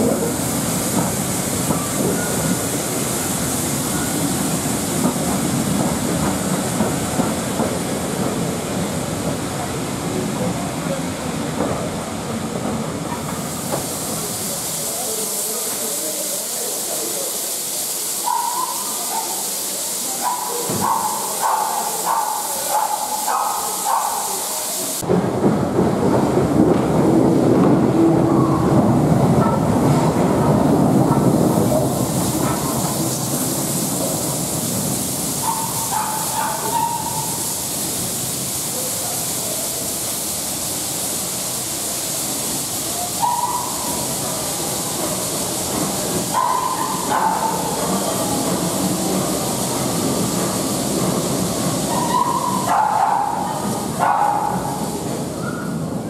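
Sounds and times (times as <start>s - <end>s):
steam locomotive rumble and hiss: 0.0s - 56.0s.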